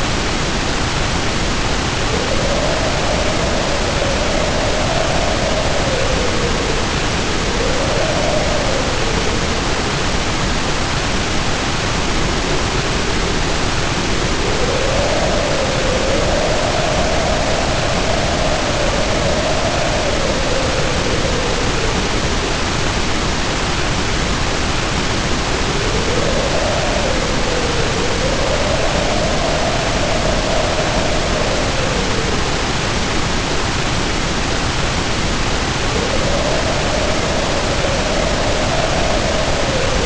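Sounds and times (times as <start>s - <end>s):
heavy rain hiss: 0.0s - 40.0s
howling wind: 0.0s - 40.0s.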